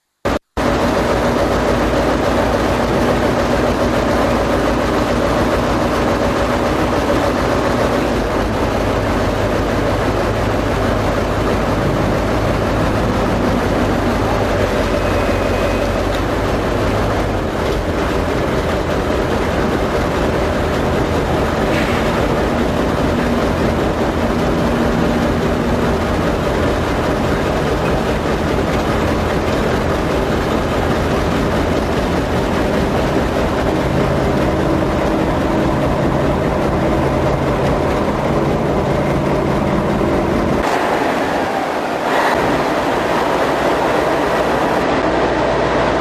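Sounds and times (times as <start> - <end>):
large engine humming: 0.3 - 46.0
loud rushing noise: 0.3 - 46.0.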